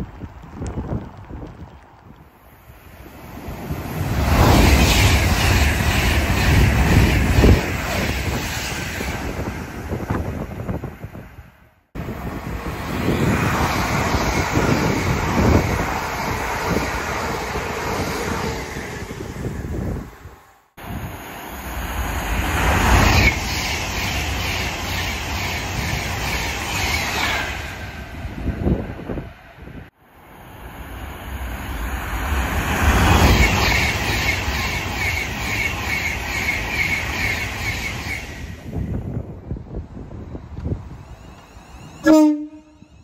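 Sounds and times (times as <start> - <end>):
train passing with wheel clatter: 0.0 - 43.0.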